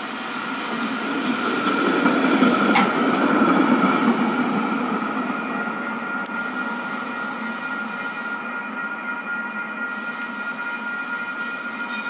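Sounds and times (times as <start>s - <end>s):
streetcar wheels rumbling on rails: 0.0s - 12.0s.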